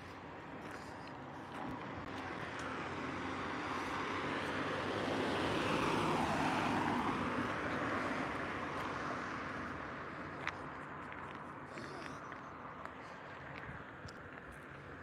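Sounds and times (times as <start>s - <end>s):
vehicle passing: 0.3s - 15.0s.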